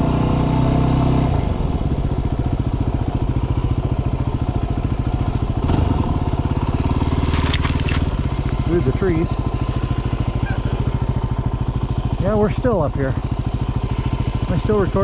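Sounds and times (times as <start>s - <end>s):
motorcycle engine running: 1.3s - 15.0s.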